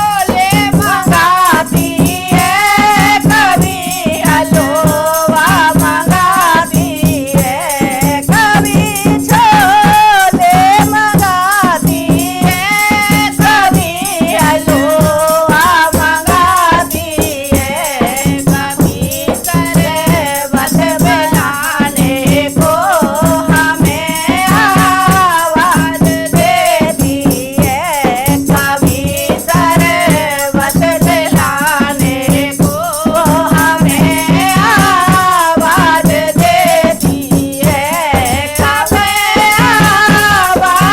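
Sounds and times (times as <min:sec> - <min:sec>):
fast rattling percussion beat: 0:00.0 - 0:40.9.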